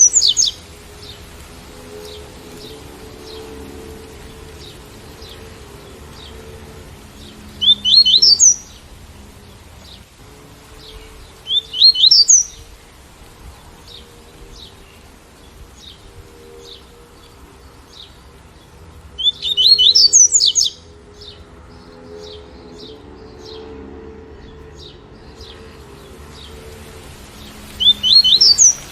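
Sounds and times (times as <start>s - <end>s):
bird song bursts of rising notes: 0.0s - 28.9s.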